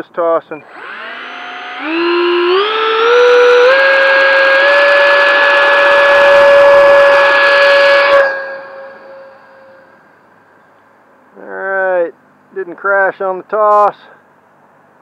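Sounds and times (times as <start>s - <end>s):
electric ducted fan whine: 0.4s - 12.6s.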